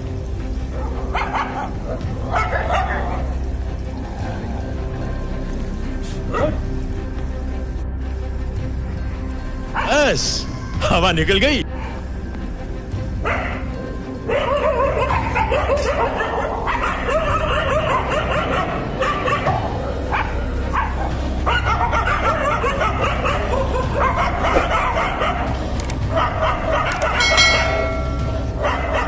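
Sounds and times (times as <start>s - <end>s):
dogs barking and snarling: 0.0s - 10.0s, 11.7s - 29.0s.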